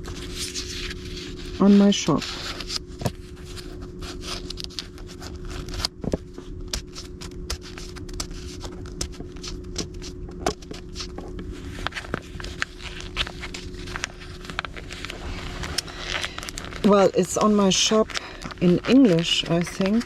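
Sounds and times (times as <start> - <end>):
clicks scrapes and rustles: 0.0 - 20.0
steady low hum: 0.0 - 20.0.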